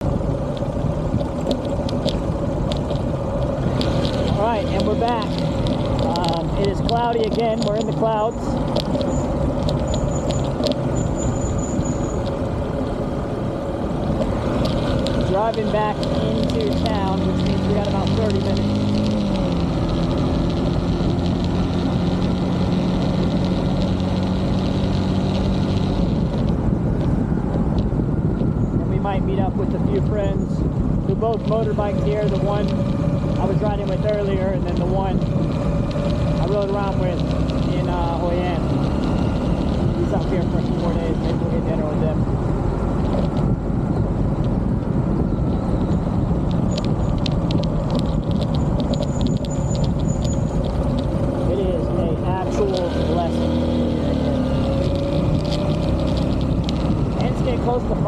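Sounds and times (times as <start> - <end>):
motorbike engine humming: 0.0 - 58.0
wind rush on microphone: 0.0 - 58.0.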